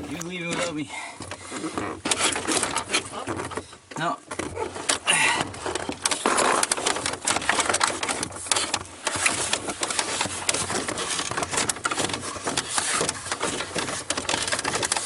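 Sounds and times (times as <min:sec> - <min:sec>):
dry wood rustling and knocking: 0:00.0 - 0:15.0.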